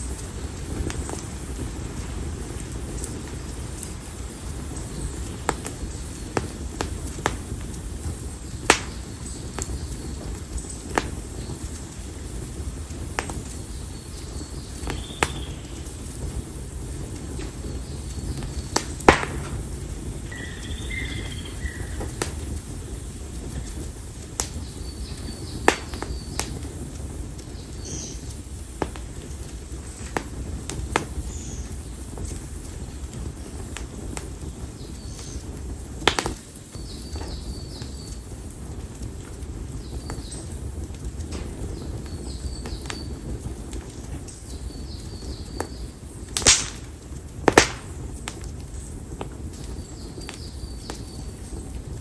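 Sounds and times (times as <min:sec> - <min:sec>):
firewood snapping and popping: 0:00.0 - 0:52.0
low rumble of flame: 0:00.0 - 0:52.0.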